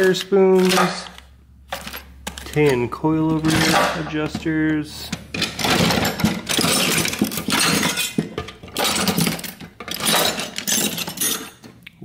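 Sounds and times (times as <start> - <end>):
metal tools clattering: 0.0 - 11.8.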